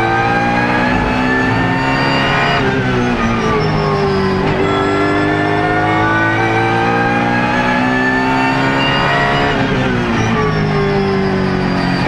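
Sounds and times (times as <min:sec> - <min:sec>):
racing engine at full throttle: 0:00.0 - 0:12.0.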